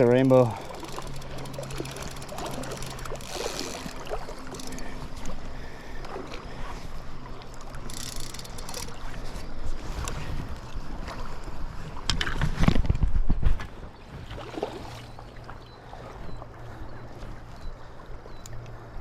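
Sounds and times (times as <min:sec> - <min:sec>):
river water splashing around raft: 0:00.0 - 0:12.6, 0:13.7 - 0:19.0.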